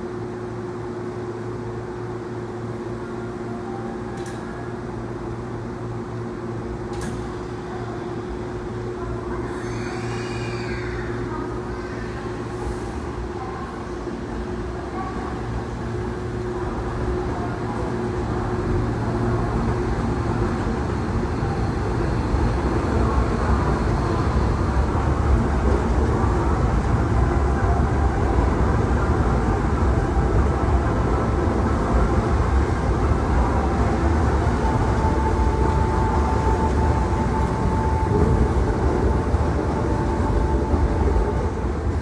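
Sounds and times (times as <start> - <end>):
electric train rumbling: 0.0 - 42.0.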